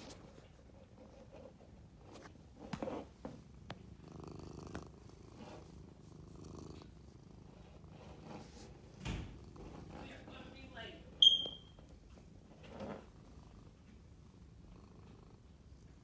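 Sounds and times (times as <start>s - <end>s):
cat purring: 0.1s - 10.8s, 12.0s - 16.0s.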